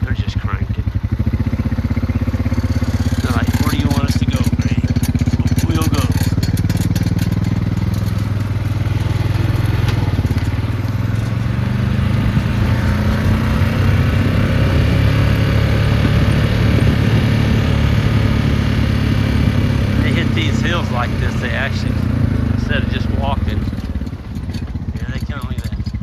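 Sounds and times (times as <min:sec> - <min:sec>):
farm vehicle engine running: 0:00.0 - 0:26.0.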